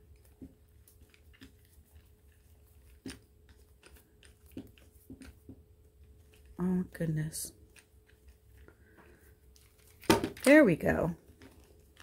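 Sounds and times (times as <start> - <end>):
hands clicking and rustling pouch: 0.0 - 12.0.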